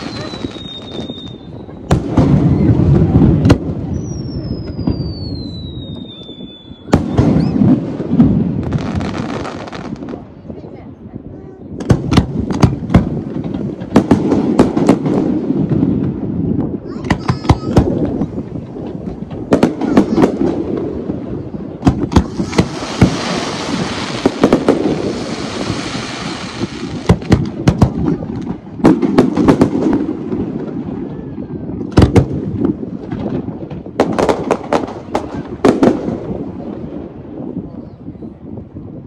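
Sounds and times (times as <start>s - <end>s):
fireworks bangs: 0.0s - 10.7s, 11.6s - 38.9s
hissing crackle of fireworks: 0.0s - 38.6s.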